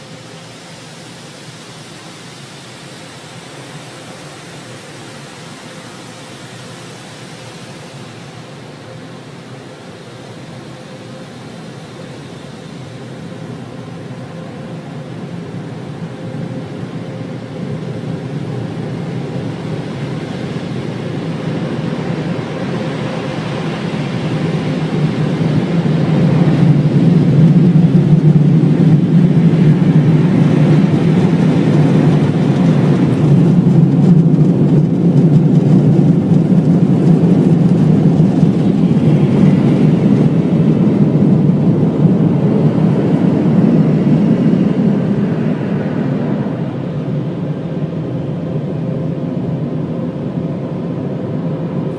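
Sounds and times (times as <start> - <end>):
car wash machinery rushing: 0.0 - 51.9.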